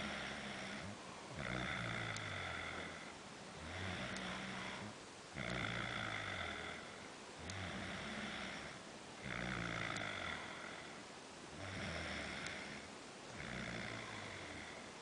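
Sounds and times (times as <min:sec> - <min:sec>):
person snoring: 0:00.0 - 0:14.9.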